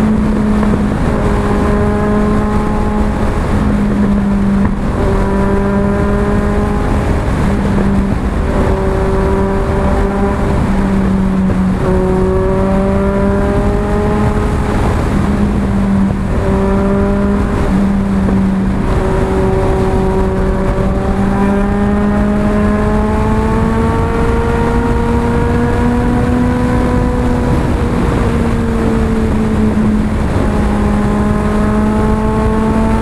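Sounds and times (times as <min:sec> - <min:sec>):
motorcycle engine running: 0:00.0 - 0:33.0
wind rushing over microphone: 0:00.0 - 0:33.0.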